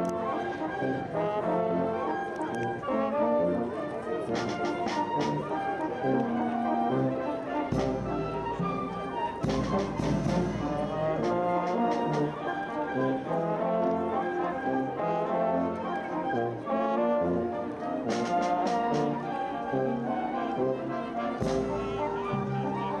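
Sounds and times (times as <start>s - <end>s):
live brass band playing: 0.0s - 23.0s.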